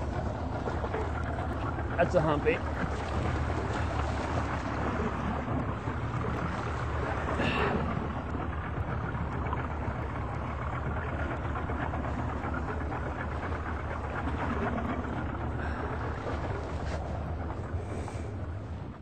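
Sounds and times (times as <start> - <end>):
outboard motor running: 0.0 - 19.0
wind and water hiss: 0.0 - 19.0.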